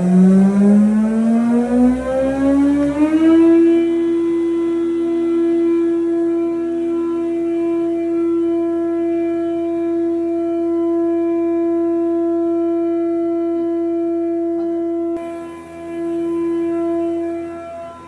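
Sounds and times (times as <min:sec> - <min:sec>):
loud steady held tone: 0:00.0 - 0:18.0.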